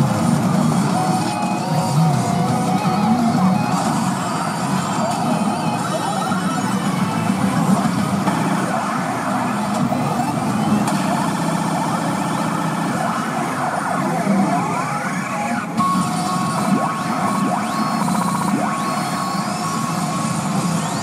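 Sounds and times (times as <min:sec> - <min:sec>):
pachinko machine electronic effects: 0:00.0 - 0:21.0
siren-like rising and falling tones: 0:00.0 - 0:21.0.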